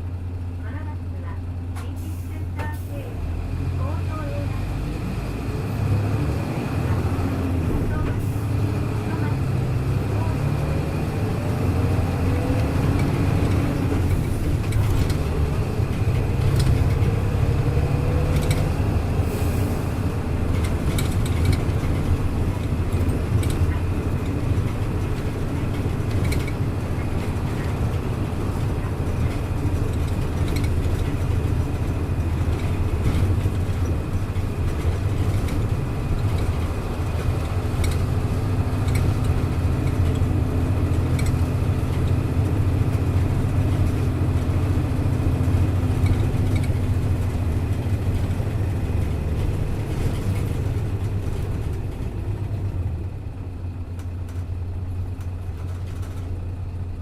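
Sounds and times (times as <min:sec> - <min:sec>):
bus diesel engine drone: 0:00.0 - 0:57.0.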